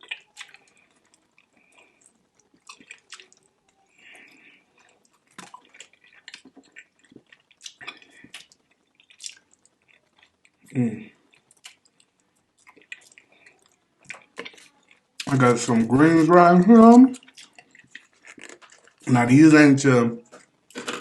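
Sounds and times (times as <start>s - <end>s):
wet chewing and lip-smacking: 0.0s - 15.4s, 16.8s - 19.1s.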